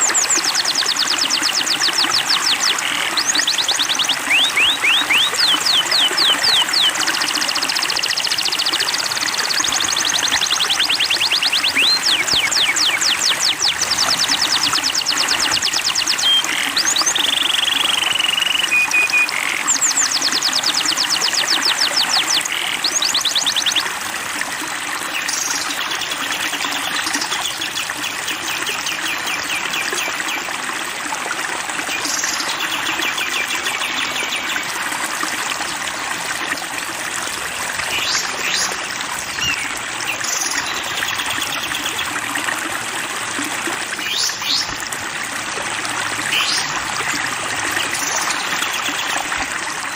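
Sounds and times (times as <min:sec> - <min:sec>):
songbirds singing: 0:00.0 - 0:24.0, 0:25.1 - 0:30.6, 0:31.7 - 0:34.8, 0:37.6 - 0:42.4, 0:43.9 - 0:44.8, 0:46.2 - 0:49.9
running water: 0:00.0 - 0:49.9.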